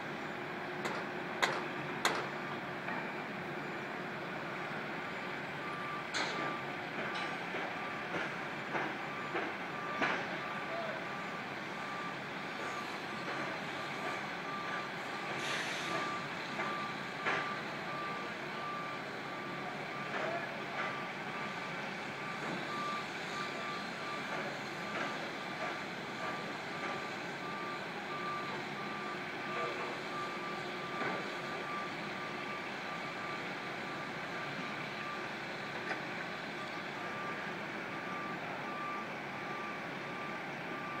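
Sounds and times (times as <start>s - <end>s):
city noise: 0.0s - 41.0s
reversing alarm beeping: 0.8s - 41.0s.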